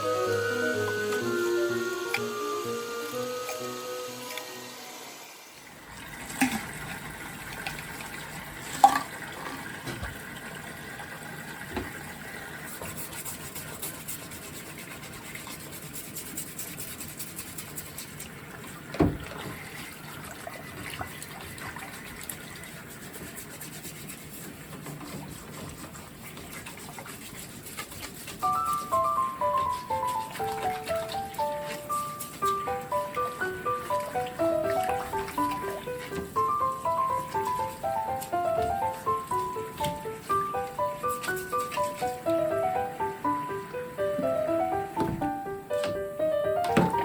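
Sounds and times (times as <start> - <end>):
water running and trickling: 0.0 - 4.6, 5.3 - 45.5.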